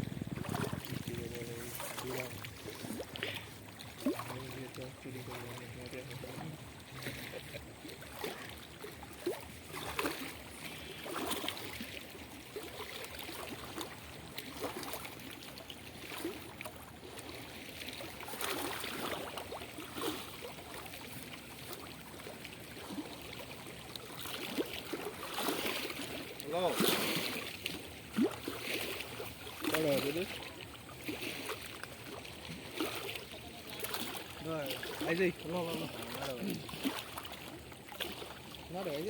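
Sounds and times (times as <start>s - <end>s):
river water splashing and trickling: 0.0s - 39.0s.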